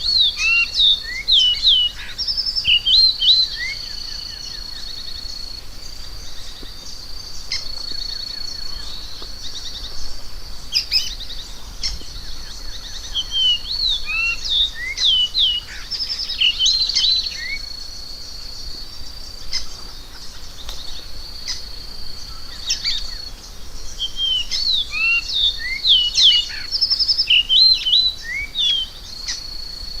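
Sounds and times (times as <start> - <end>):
bird singing whistled notes: 0.0 - 30.0.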